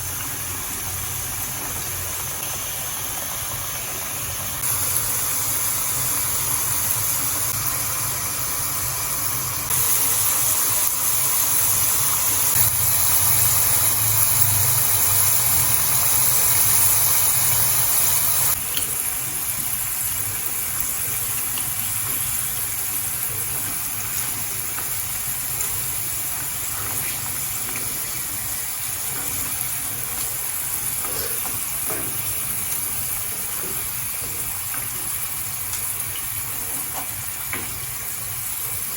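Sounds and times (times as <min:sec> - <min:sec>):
potatoes sizzling in hot oil: 0:00.0 - 0:38.9.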